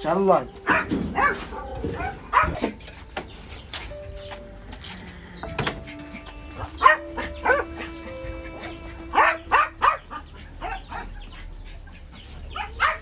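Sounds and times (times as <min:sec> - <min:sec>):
dogs barking: 0:00.0 - 0:03.0, 0:05.6 - 0:13.0
background music with held tones: 0:00.0 - 0:11.6.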